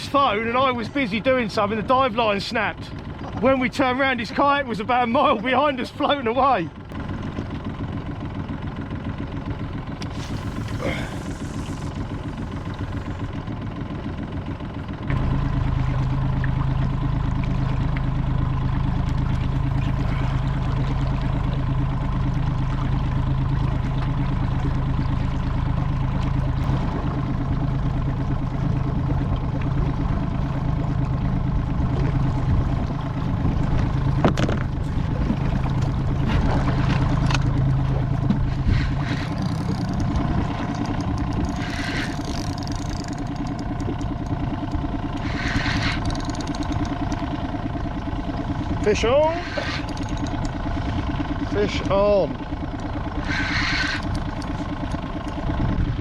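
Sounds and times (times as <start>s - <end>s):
outboard motor humming: 0.0s - 56.0s.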